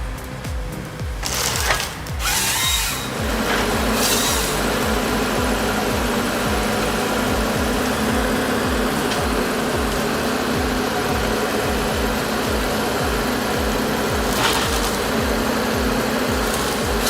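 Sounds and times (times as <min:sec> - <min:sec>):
machine running steadily: 0:00.0 - 0:17.0
music with bass beat: 0:00.0 - 0:17.0
rasping hiss: 0:00.0 - 0:17.0.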